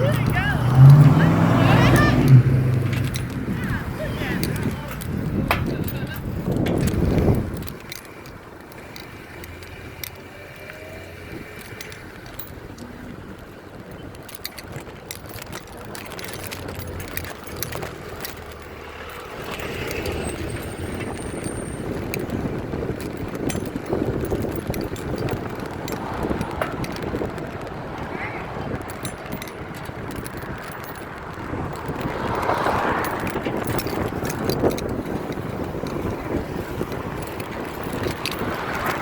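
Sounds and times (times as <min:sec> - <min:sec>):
bicycle rattling clicks: 0:00.0 - 0:39.0
tyre and road noise: 0:00.0 - 0:39.0.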